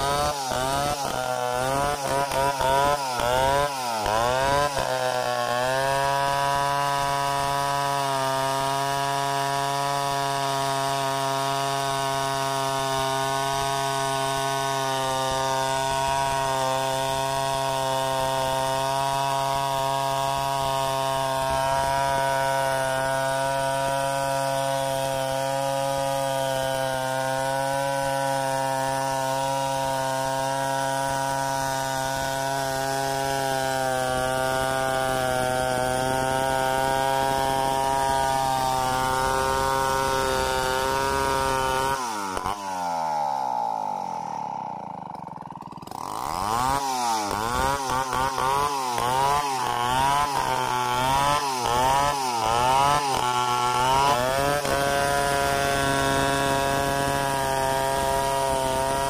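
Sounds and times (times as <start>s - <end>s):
chainsaw cutting through log: 0.0s - 59.0s.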